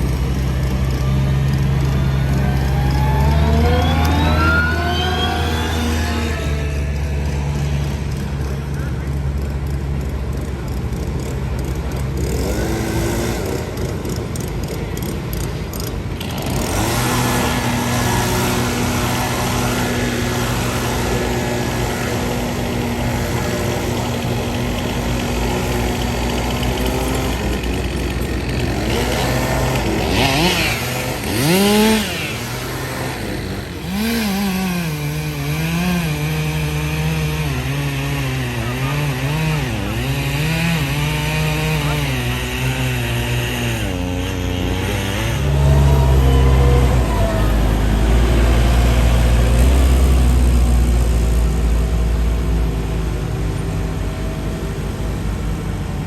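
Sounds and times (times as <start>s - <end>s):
chainsaw revving: 0.0s - 55.6s.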